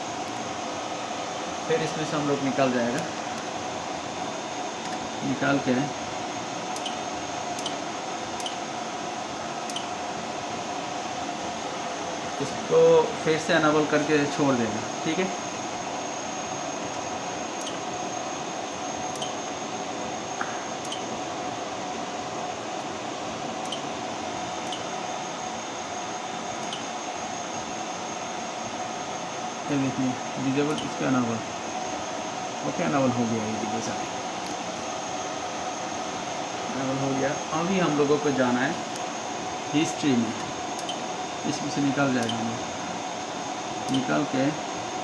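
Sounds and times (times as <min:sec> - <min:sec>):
room noise hum: 0:00.0 - 0:45.0.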